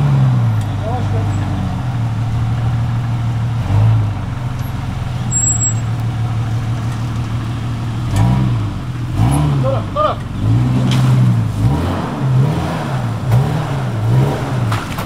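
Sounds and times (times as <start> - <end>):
engine revving: 0.0 - 15.0
engine running at low revs: 0.0 - 15.0.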